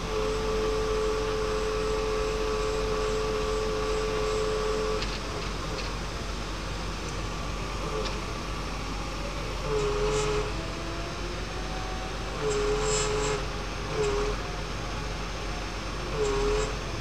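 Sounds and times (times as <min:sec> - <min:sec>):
high steady whine: 0:00.0 - 0:17.0
piling rig idling: 0:00.0 - 0:17.0.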